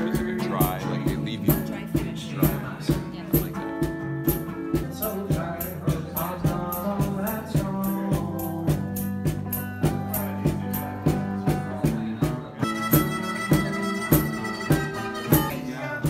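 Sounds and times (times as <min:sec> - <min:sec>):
music with steady beat: 0:00.0 - 0:16.0.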